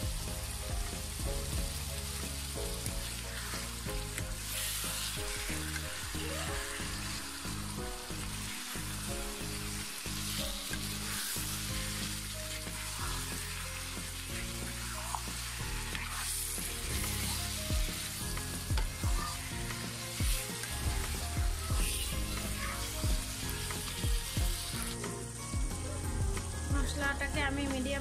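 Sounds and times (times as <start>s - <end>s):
meat sizzling in a pan: 0.0s - 27.0s.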